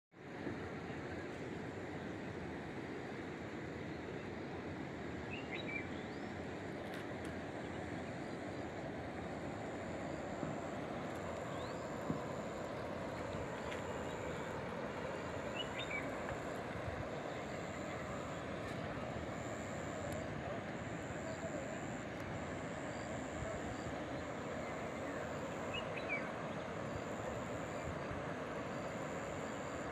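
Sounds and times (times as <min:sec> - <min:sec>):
outdoor background noise: 0:00.1 - 0:29.9.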